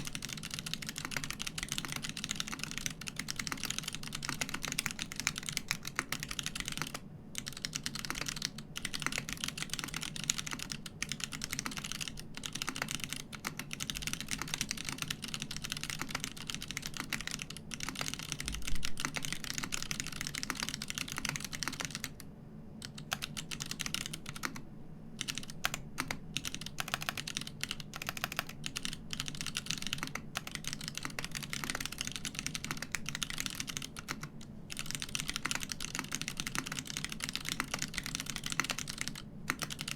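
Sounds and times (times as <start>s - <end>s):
mechanical keyboard typing: 0.0s - 24.6s, 25.2s - 39.9s.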